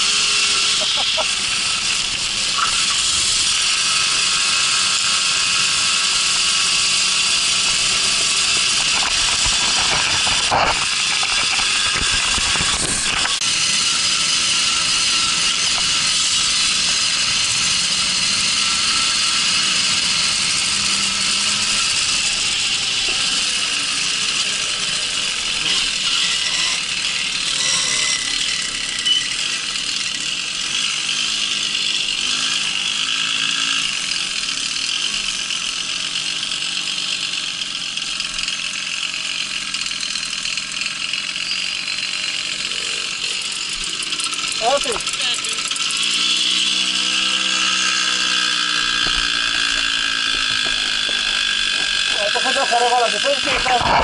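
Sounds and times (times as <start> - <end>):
two-stroke moped engine running: 0.0 - 54.0.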